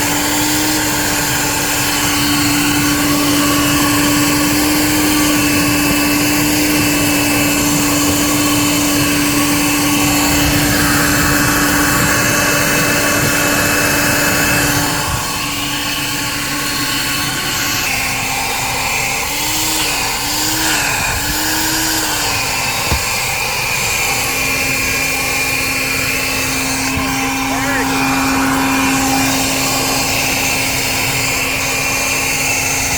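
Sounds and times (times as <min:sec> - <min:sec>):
shop vacuum motor whine: 0:00.0 - 0:32.9.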